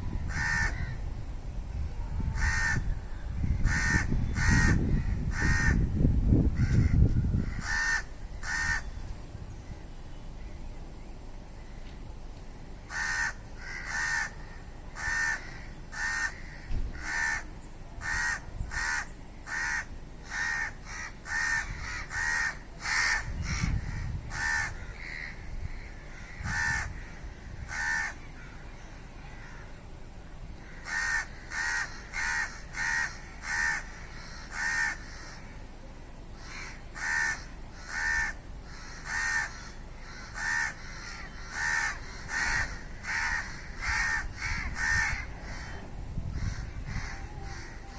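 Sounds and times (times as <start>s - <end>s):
crow cawing: 0.2s - 1.0s, 2.2s - 5.9s, 6.6s - 8.9s, 12.9s - 28.7s, 29.3s - 29.8s, 30.6s - 35.6s, 36.4s - 47.9s.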